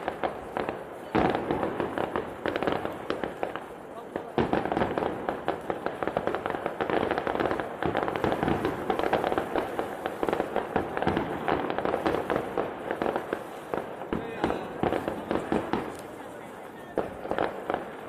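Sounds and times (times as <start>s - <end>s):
fireworks crackling bangs: 0.0s - 18.0s.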